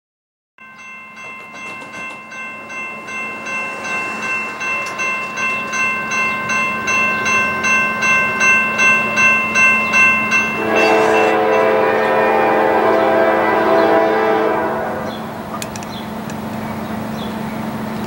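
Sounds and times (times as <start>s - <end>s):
railroad bell ringing: 0.6s - 16.2s.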